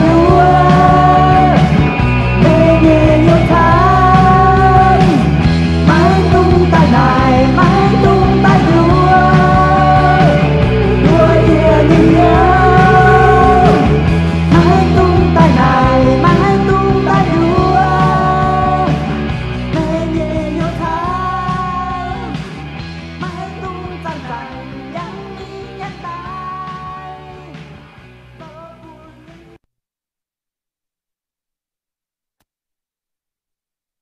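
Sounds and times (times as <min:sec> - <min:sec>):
rock song: 0:00.0 - 0:29.6.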